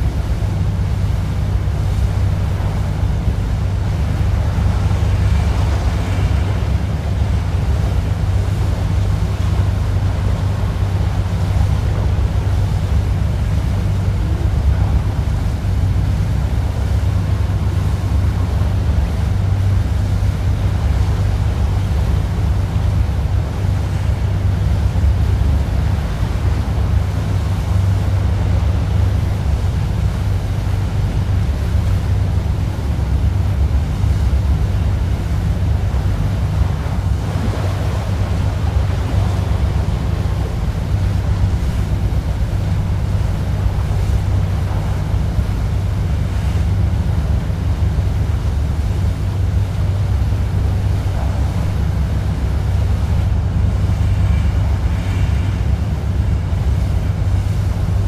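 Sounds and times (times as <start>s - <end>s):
boat engine droning: 0.0s - 58.0s
water rushing: 0.0s - 58.0s
wind: 0.0s - 58.0s.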